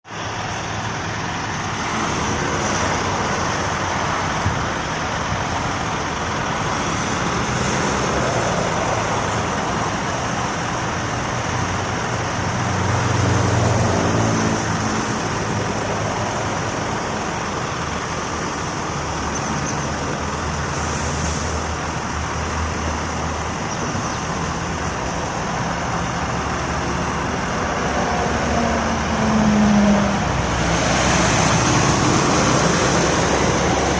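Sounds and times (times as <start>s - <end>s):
road and tyre noise: 0.0s - 33.9s
truck engine rumble: 0.0s - 33.9s.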